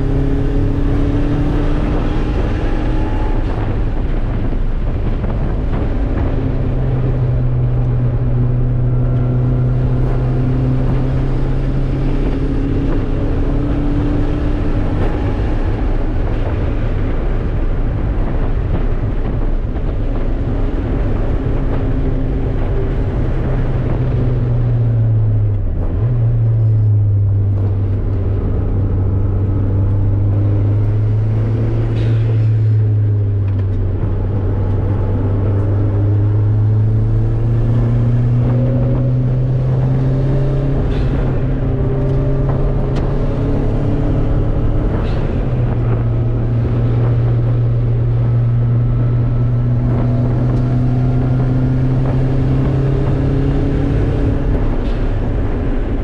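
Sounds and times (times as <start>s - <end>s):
car engine and exhaust: 0.0s - 56.0s
wind and road noise: 0.0s - 56.0s.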